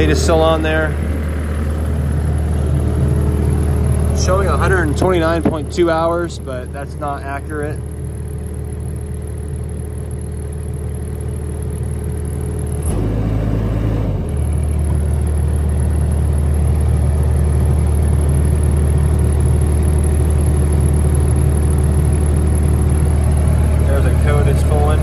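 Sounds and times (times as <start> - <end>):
diesel excavator engine running: 0.0 - 25.0.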